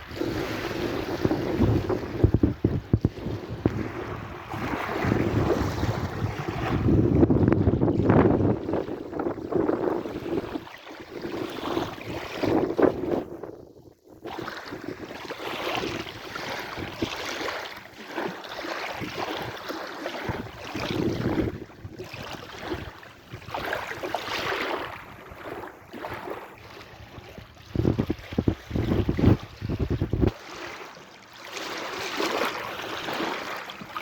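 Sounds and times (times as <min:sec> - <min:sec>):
sea waves washing: 0:00.0 - 0:13.3, 0:15.3 - 0:34.0.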